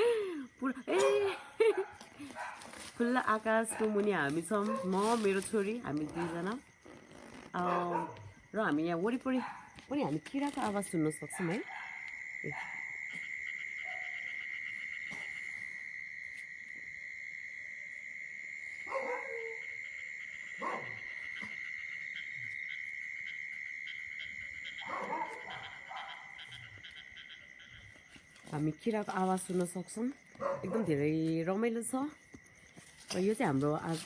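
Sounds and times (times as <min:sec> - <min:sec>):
night insects chorus: 0:00.0 - 0:34.0.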